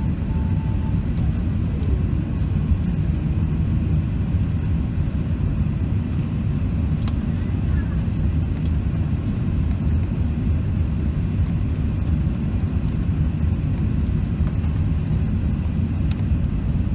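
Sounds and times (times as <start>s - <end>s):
jet engines rumbling in cabin: 0.0s - 16.9s.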